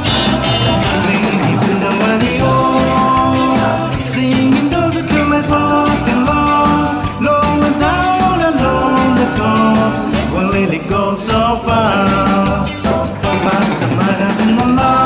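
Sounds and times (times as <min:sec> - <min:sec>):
upbeat rock song with singing: 0:00.0 - 0:15.0.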